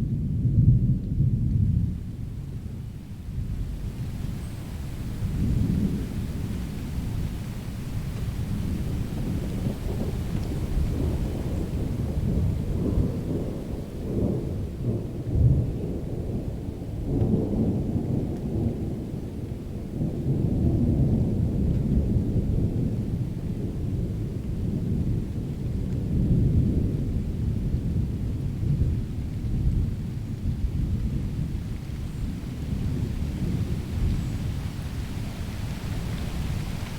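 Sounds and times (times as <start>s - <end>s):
thunder rumbling: 4.9s - 36.9s.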